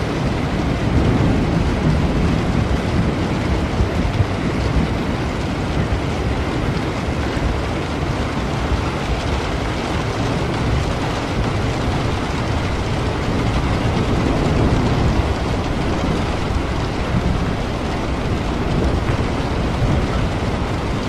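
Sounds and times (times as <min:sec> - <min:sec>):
heavy rain: 0:00.0 - 0:21.0
low rumble of thunder: 0:00.0 - 0:21.0.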